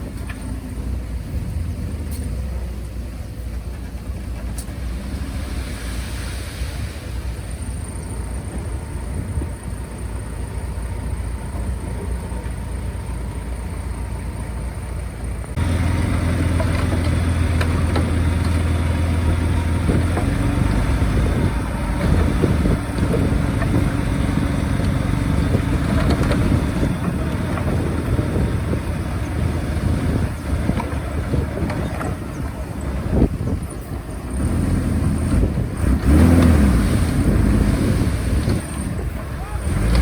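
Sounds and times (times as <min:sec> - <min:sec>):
bulldozer diesel engine: 0:00.0 - 0:40.0.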